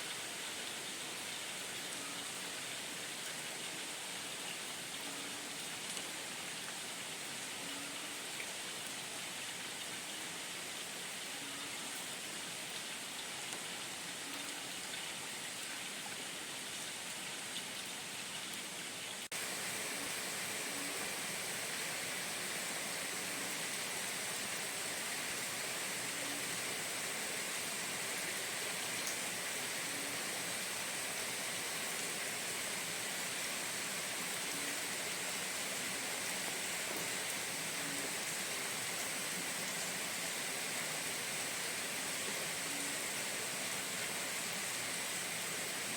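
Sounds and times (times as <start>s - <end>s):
rain hiss: 0.0s - 45.9s.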